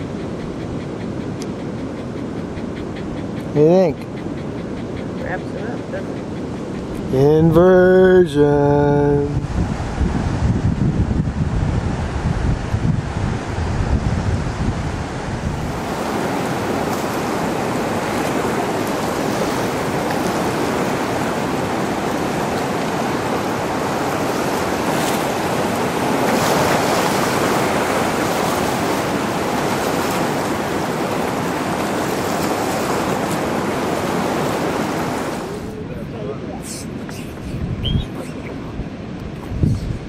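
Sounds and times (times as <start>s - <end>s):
wind buffeting microphone: 0.0s - 36.5s, 37.3s - 40.0s
ocean surf breaking: 0.0s - 40.0s.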